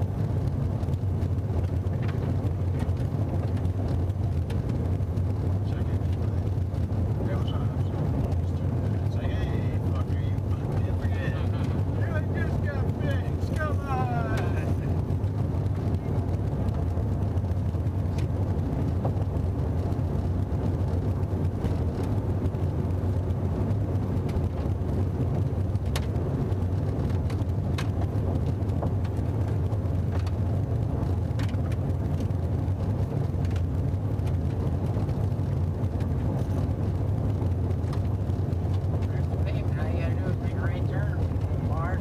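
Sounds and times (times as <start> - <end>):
car engine drone: 0.0 - 42.0
road rumble inside car: 0.0 - 42.0.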